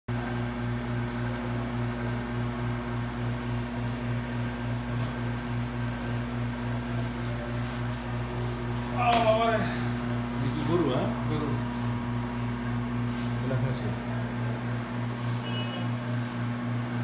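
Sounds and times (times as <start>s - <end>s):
mechanical hum with low throb: 0.1s - 17.0s.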